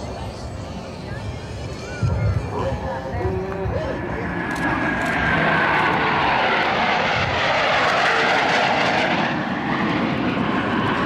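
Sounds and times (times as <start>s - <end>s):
jet roar passing overhead: 0.0s - 11.0s.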